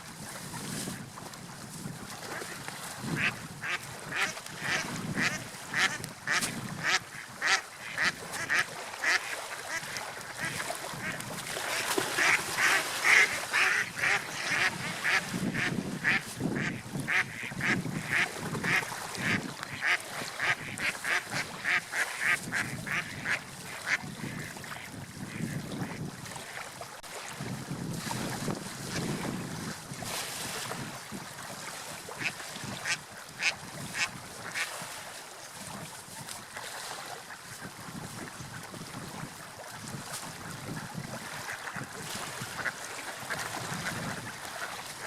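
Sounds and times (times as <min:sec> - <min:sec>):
wind: 0:00.0 - 0:45.0.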